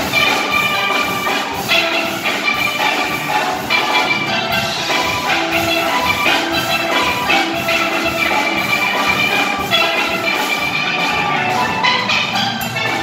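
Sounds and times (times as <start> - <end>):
drum kit beat: 0.0 - 13.0
steel band playing: 0.0 - 13.0.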